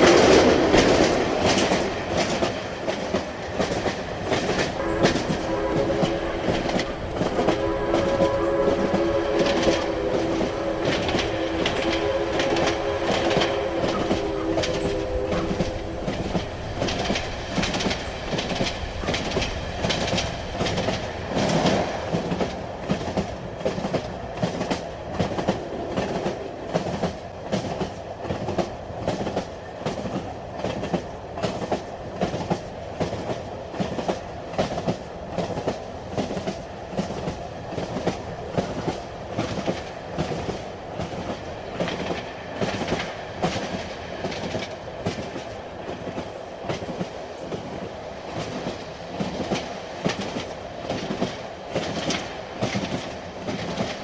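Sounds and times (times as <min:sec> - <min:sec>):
train running noise: 0:00.0 - 0:54.0
train wheels clicking over joints: 0:00.0 - 0:54.0.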